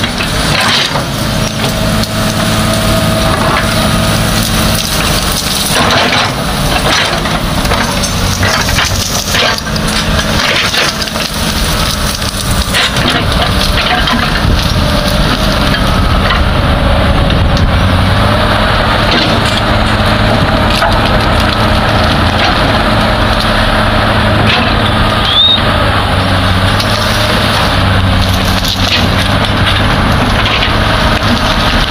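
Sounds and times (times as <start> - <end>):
branches and rock cracking: 0.0 - 31.9
excavator diesel engine running: 0.0 - 31.9.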